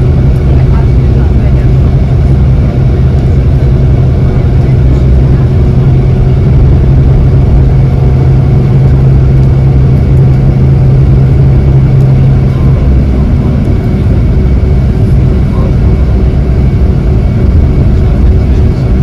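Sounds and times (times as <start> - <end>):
steady low hum: 0.0 - 19.0
vehicle interior rumble: 0.0 - 19.0.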